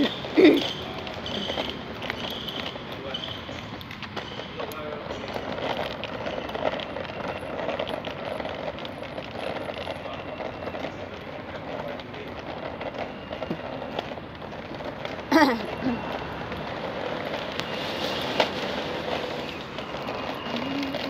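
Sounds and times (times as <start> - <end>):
patter of raindrops: 0.0 - 21.0.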